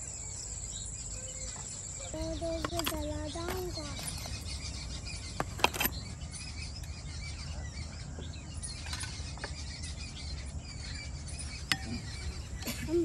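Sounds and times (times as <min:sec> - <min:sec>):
birds chirping: 0:00.0 - 0:13.0
insects: 0:00.0 - 0:13.0.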